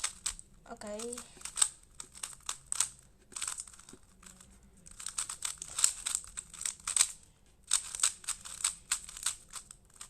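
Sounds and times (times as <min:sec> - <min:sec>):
puzzle cube clicking: 0:00.0 - 0:10.0.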